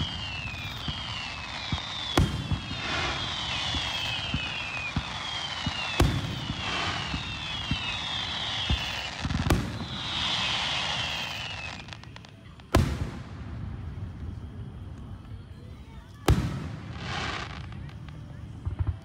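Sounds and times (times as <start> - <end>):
falling firework whistles: 0.0 - 15.1, 16.2 - 19.0.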